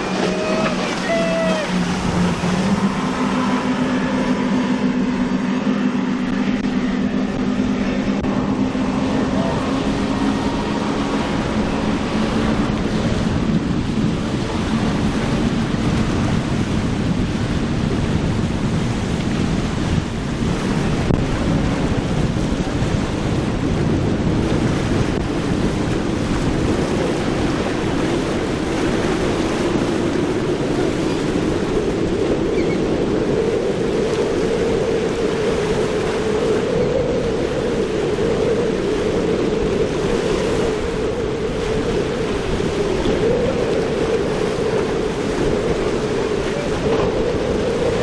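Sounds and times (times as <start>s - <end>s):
boat outboard engine drone: 0.0s - 48.0s
surf: 0.0s - 48.0s
wind on microphone: 0.0s - 48.0s.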